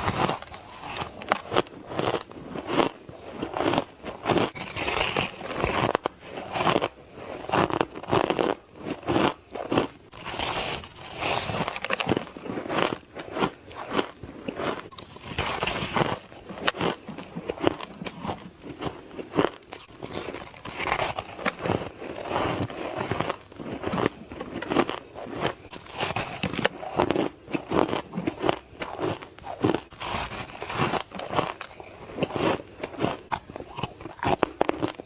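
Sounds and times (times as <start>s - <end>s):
crushed ice being chewed: 0.0s - 35.0s.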